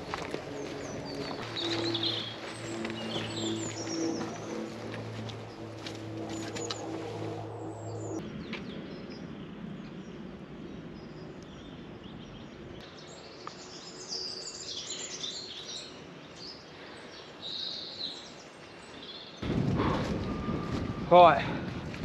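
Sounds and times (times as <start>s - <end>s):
small birds chirping: 0.0s - 19.6s.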